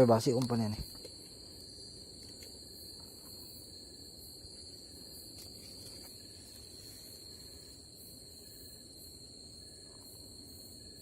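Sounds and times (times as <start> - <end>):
crickets calling: 0.0 - 11.0.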